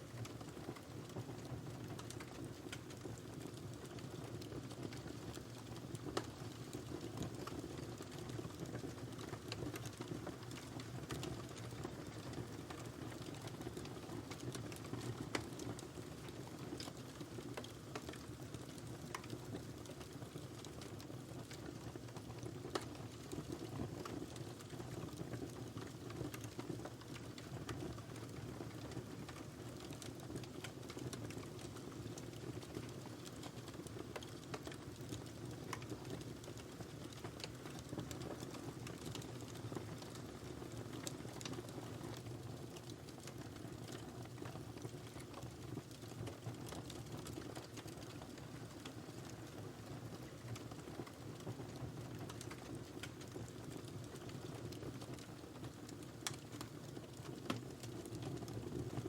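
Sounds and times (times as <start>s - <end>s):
fire crackling and popping: 0.1s - 59.0s.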